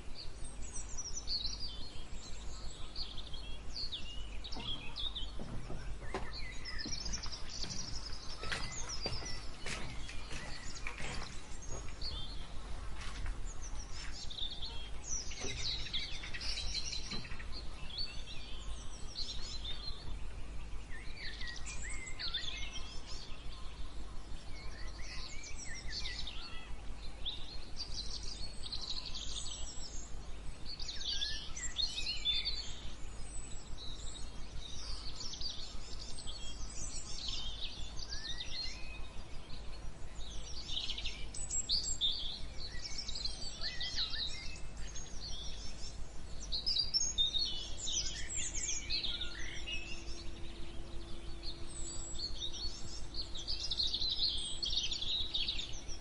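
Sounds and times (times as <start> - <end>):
low background hiss: 0.0 - 56.0
songbirds singing: 0.0 - 56.0.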